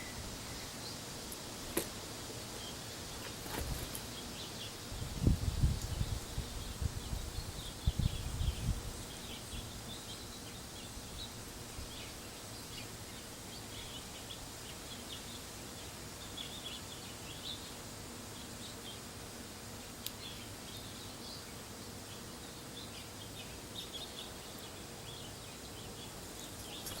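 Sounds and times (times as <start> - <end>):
background hiss: 0.0 - 27.0
small birds chirping: 0.0 - 27.0.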